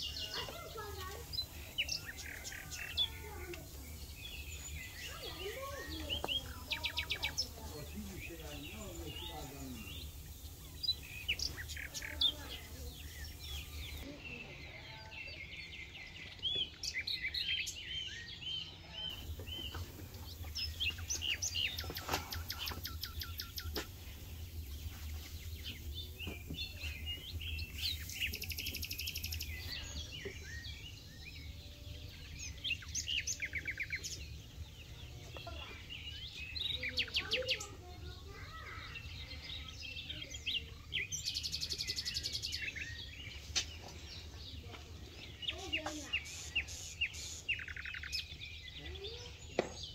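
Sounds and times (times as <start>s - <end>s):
songbirds chirping and singing: 0.0s - 49.9s.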